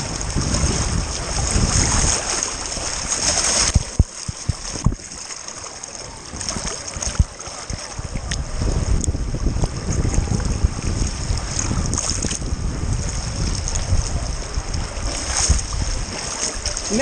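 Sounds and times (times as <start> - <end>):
river current rushing and splashing: 0.0 - 17.0
wind buffeting microphone: 0.0 - 17.0.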